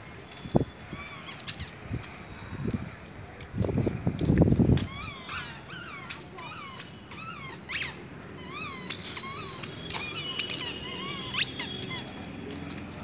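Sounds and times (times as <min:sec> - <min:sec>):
squeaker sandals squeaking: 0:00.2 - 0:02.6, 0:04.7 - 0:13.0.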